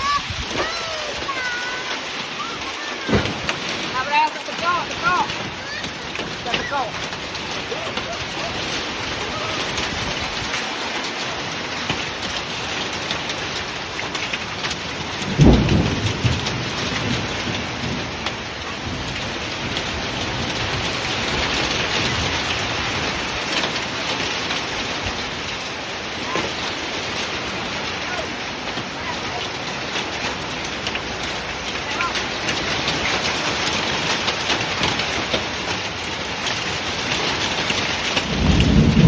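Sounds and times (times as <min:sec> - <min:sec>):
heavy rain and ice falling: 0:00.0 - 0:39.0
thunder rumble: 0:00.0 - 0:39.0.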